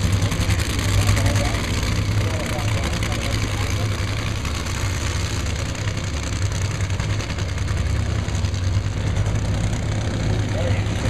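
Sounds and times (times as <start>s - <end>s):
supercharged engines idling: 0.0s - 11.0s.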